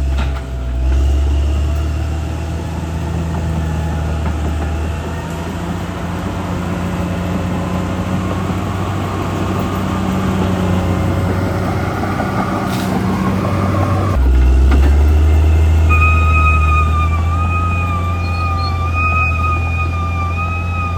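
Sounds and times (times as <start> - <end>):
bulldozer diesel engine running: 0.0 - 20.9.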